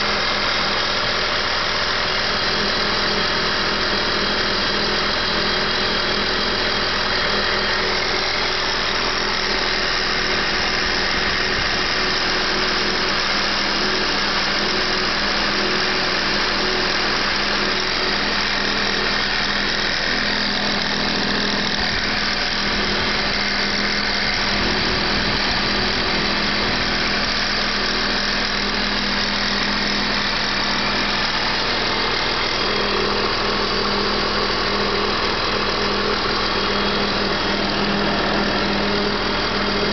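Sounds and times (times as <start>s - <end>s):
car engine idling: 0.0s - 15.2s, 16.1s - 39.9s
knocking noise from engine belt: 0.0s - 39.9s.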